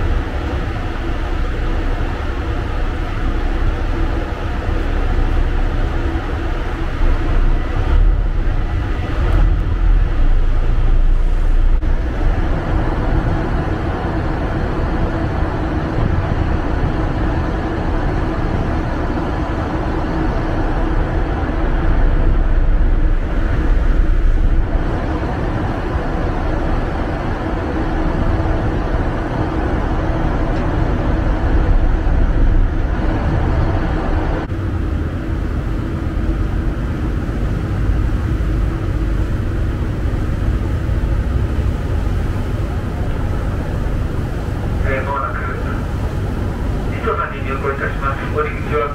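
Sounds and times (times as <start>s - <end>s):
ferry engine droning: 0.0s - 48.9s.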